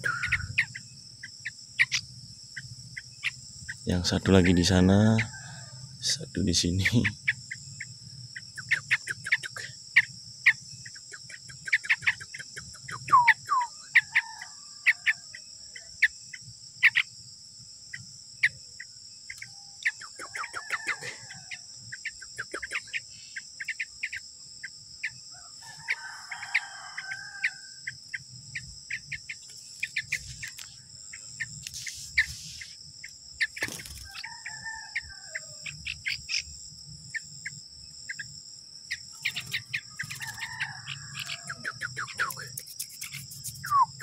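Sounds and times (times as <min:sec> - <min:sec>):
sharp bird chirps: 0:00.0 - 0:15.2, 0:15.8 - 0:17.2, 0:17.9 - 0:44.0
insects droning: 0:00.0 - 0:44.0.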